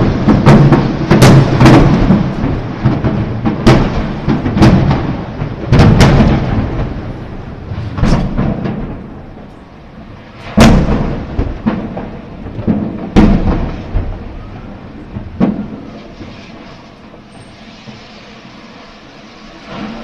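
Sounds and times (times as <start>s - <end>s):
explosions with rolling rumble: 0.0s - 20.0s.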